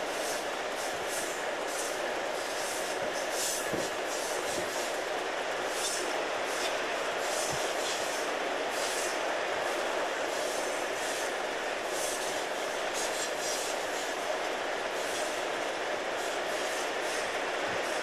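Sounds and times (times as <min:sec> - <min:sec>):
diesel locomotive running rumble: 0:00.0 - 0:18.0.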